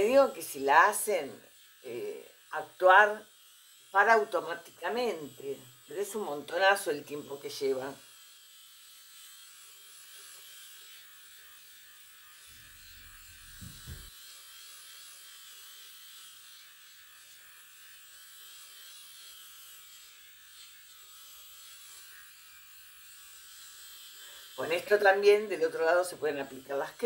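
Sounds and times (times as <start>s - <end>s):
facial cleansing brush buzzing: 0.0s - 27.0s.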